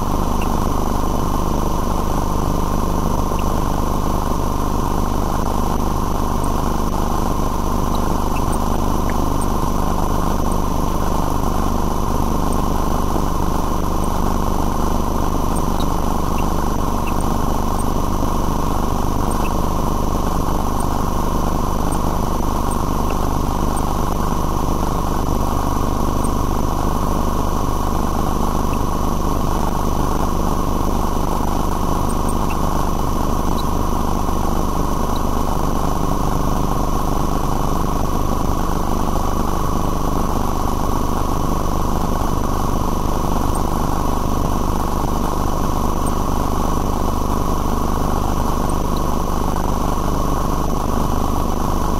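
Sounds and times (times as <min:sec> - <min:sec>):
high whine: 0:00.0 - 0:51.9
machine hum: 0:00.0 - 0:51.9.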